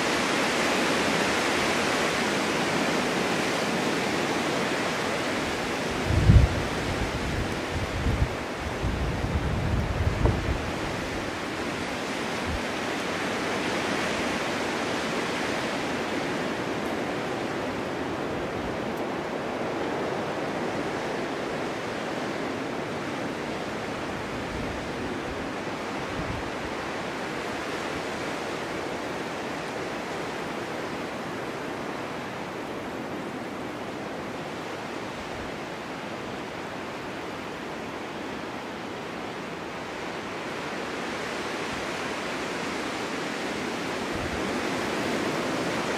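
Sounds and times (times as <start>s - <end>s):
snowstorm wind rushing: 0.0s - 45.9s.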